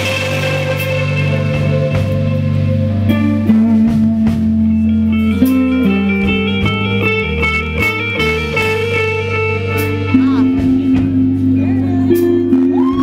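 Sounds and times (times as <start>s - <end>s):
bass line: 0.0s - 13.0s
electric guitars playing chords: 0.0s - 13.0s.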